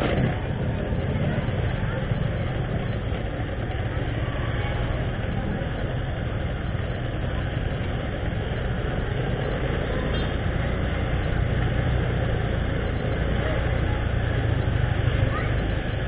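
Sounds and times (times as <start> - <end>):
motorcycle engine running: 0.0 - 16.0
other motorbike engines: 0.0 - 16.0.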